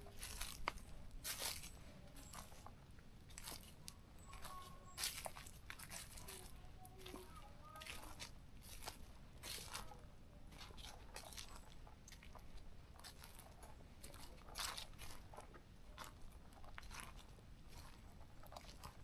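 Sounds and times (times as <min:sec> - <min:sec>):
footsteps crunching on forest floor: 0:00.0 - 0:19.0.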